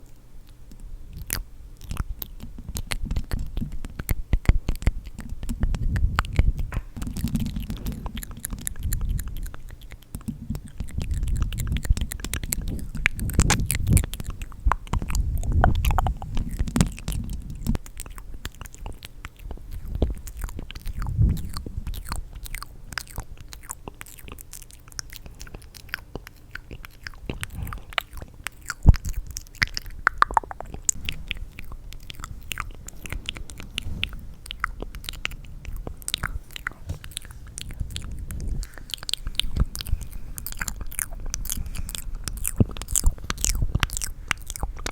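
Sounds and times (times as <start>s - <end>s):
wet mouth clicks and smacks: 0.0s - 44.9s.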